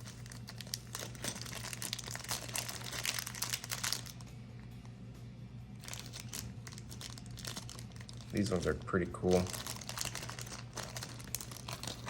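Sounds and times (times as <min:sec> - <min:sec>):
plastic packaging crinkling: 0:00.0 - 0:04.3, 0:05.8 - 0:12.0.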